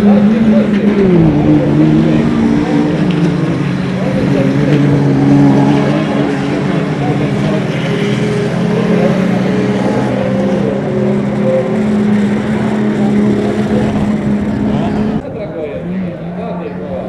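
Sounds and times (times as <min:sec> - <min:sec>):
race truck engines running hard: 0:00.0 - 0:17.0.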